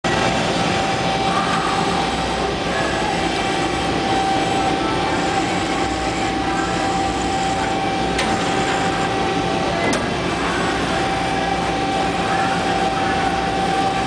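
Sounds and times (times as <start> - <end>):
punch press machine hum: 0.0 - 14.0.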